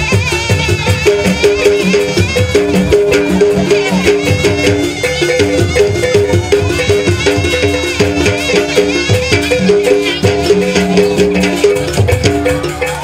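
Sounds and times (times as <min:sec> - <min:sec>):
double-reed pipe melody: 0:00.0 - 0:13.0
hand drum strokes: 0:00.0 - 0:13.0.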